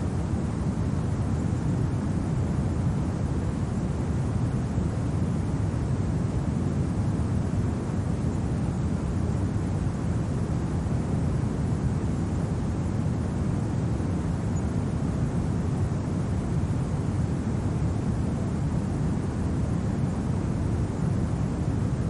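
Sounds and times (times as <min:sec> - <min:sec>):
low rumbling wind: 0:00.0 - 0:22.0.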